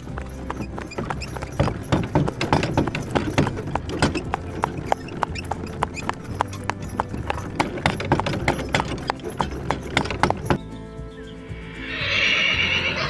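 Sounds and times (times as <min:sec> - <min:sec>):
horse hooves clip-clopping: 0:00.0 - 0:12.4.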